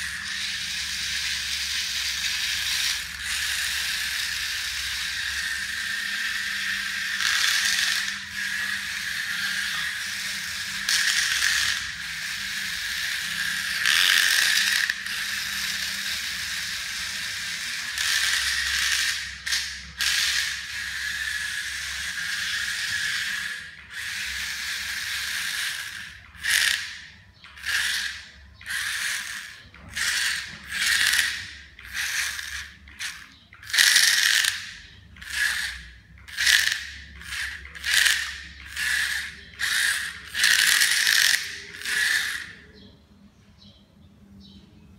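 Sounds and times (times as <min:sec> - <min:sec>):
electric gear motors whirring: 0:00.0 - 0:42.8.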